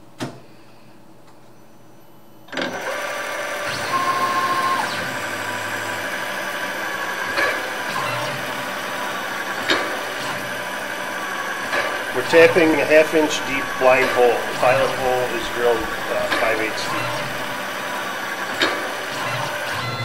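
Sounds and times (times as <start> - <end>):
mill spindle whining: 2.0 - 20.0.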